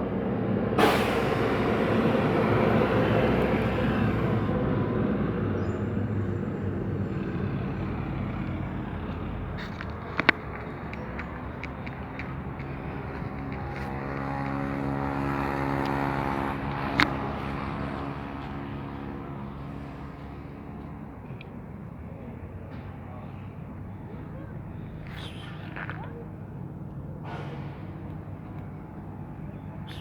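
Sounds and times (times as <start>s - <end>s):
vehicle engine running: 0.0s - 25.4s
street traffic: 0.0s - 30.0s.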